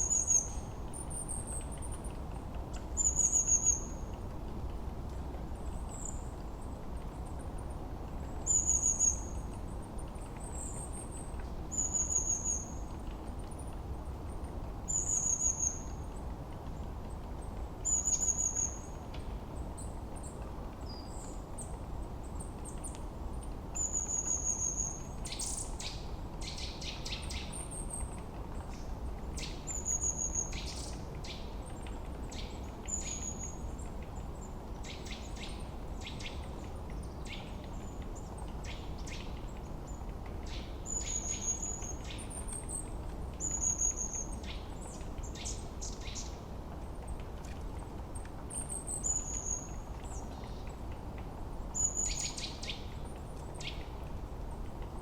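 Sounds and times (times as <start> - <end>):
low background noise: 0.0 - 55.0.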